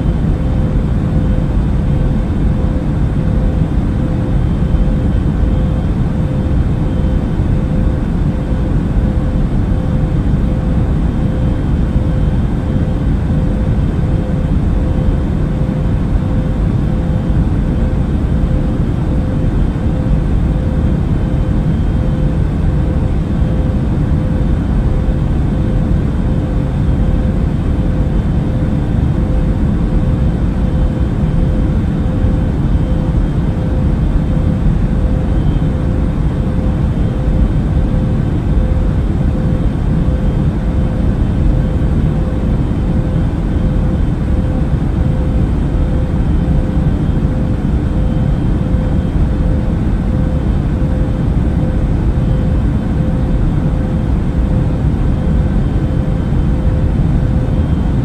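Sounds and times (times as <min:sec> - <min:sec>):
airliner engines droning in flight: 0:00.0 - 0:58.0
faint steady hum tone: 0:00.0 - 0:58.0.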